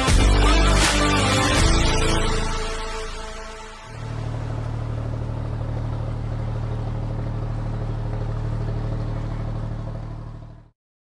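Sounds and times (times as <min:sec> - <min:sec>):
deep steady hum: 0:01.7 - 0:10.7.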